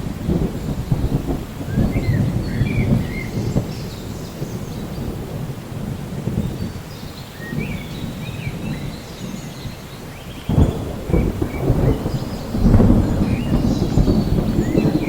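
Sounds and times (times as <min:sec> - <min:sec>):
rain: 0:00.0 - 0:15.0
rumbling thunder: 0:00.0 - 0:15.0
birds chirping: 0:00.2 - 0:05.2, 0:06.3 - 0:15.0.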